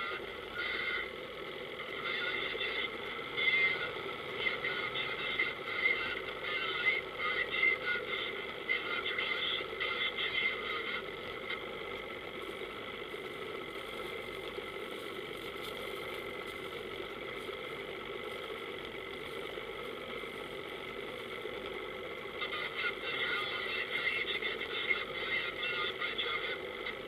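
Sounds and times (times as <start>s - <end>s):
powerboat engine running: 0.0s - 27.0s.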